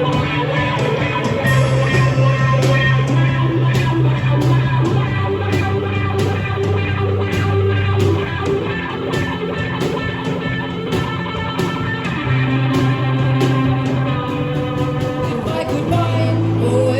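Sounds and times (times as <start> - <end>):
drum and cymbal hits: 0.0 - 16.2
bass notes: 0.0 - 16.9
electric guitar: 0.0 - 16.9.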